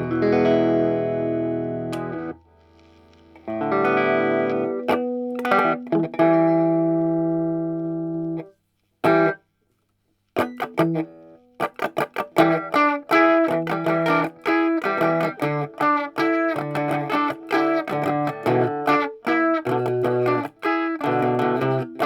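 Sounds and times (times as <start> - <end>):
electric guitar chords: 0.0 - 9.4, 10.4 - 22.0.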